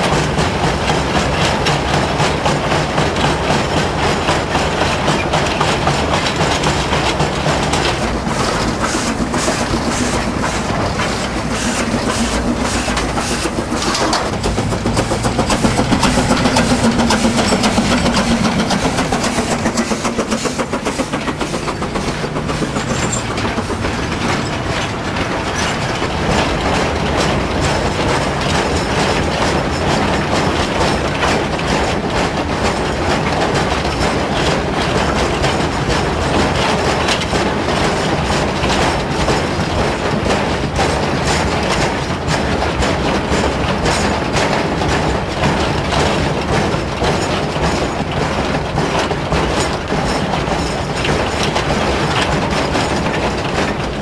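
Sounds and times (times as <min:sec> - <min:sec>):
passing train hum: 0:00.0 - 0:54.0
wagons rattling on track: 0:00.0 - 0:54.0
wheels clicking over rail joints: 0:00.0 - 0:54.0.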